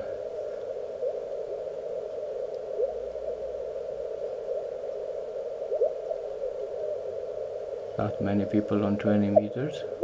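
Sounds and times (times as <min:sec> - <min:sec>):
radio band noise hiss: 0:00.0 - 0:10.0.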